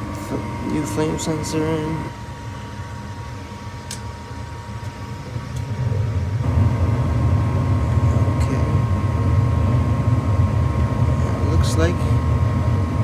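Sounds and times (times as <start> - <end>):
burner flame rumble: 0.0 - 13.0
furnace motor hum: 0.0 - 13.0.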